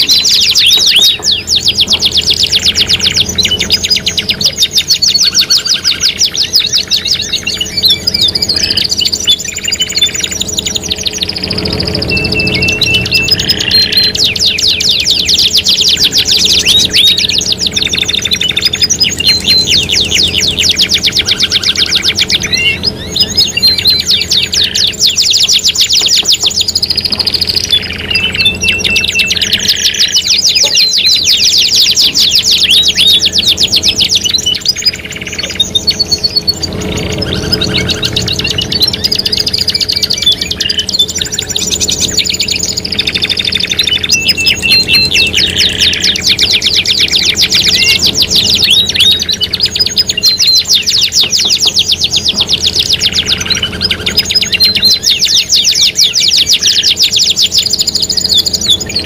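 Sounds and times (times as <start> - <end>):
canaries singing: 0.0 - 59.0
faint low hum: 0.0 - 59.0.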